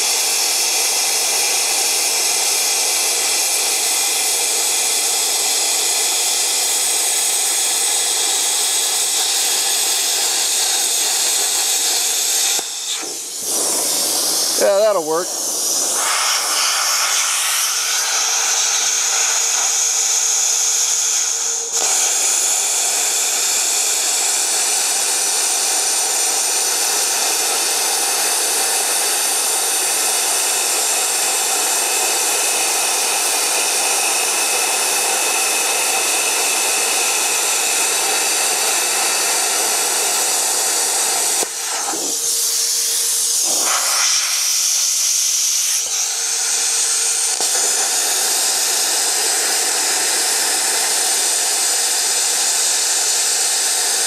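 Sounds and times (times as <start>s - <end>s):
plasma cutter hissing: 0.0s - 54.0s.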